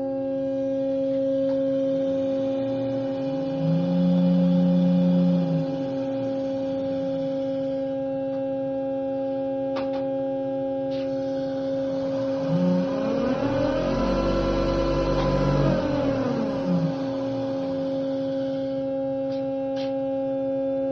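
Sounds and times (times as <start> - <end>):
rising whine with rumble: 0.0 - 9.7, 10.5 - 20.3
test rig humming: 0.0 - 20.4.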